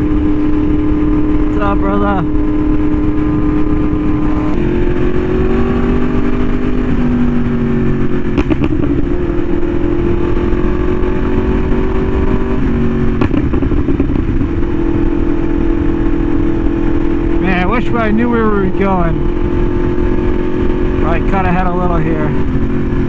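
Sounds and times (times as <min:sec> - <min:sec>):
motorcycle engine cruising: 0:00.0 - 0:23.0
wind noise: 0:00.0 - 0:23.0.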